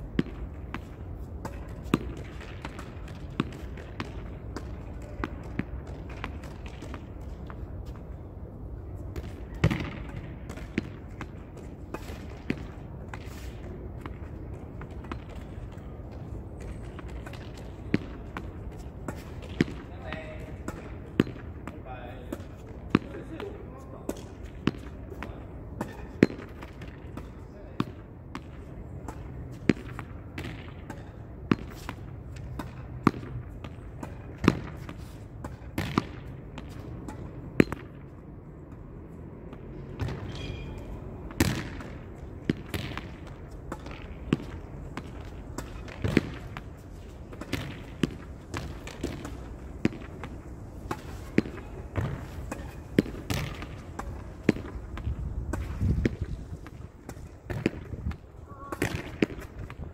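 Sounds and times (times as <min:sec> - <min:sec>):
ball bouncing: 0:00.1 - 0:08.0, 0:09.2 - 0:38.1, 0:39.5 - 0:59.8.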